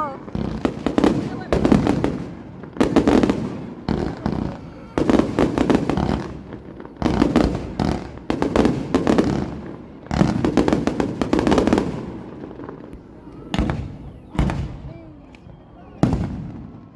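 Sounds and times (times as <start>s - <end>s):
fireworks crackling and banging: 0.0s - 16.9s.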